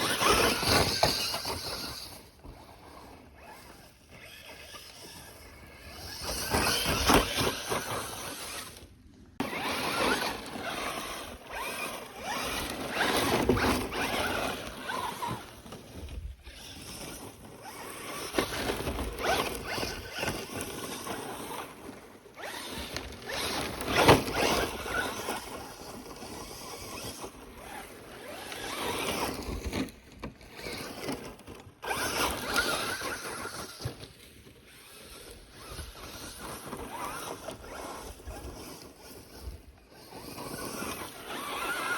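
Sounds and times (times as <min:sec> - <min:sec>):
rc truck driving on loose ground: 0:00.0 - 0:41.9.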